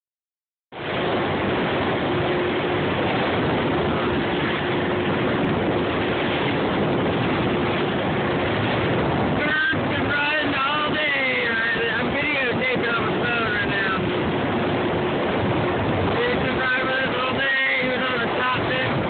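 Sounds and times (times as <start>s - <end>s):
hull cutting through waves: 0.7s - 19.0s.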